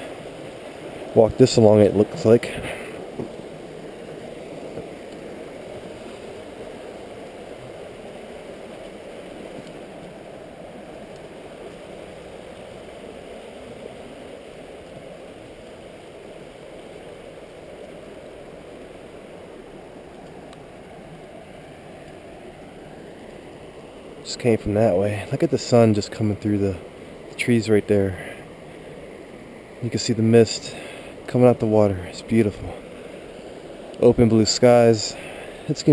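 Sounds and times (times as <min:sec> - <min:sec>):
water rushing over rapids: 0:00.0 - 0:35.9.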